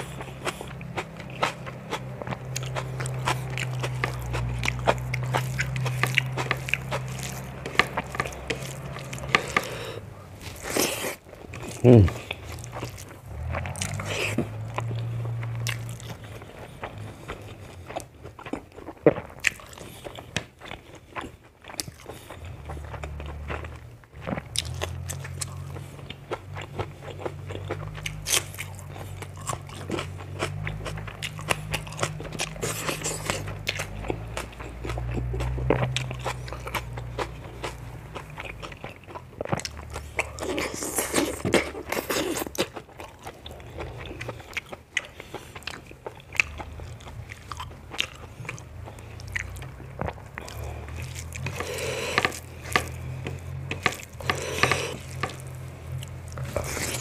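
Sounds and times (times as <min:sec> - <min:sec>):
crunching: 0:00.0 - 0:57.0
person chewing food: 0:00.0 - 0:57.0.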